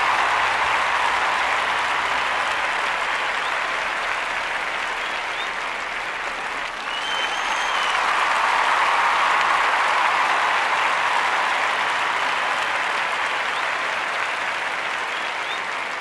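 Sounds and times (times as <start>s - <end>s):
crowd applause: 0.0s - 16.0s.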